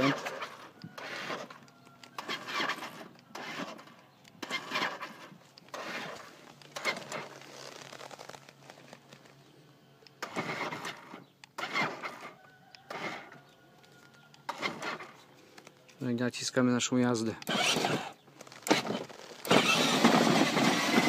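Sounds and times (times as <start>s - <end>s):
toy car motor whirring: 0.0s - 8.9s, 10.2s - 15.2s, 17.4s - 21.0s.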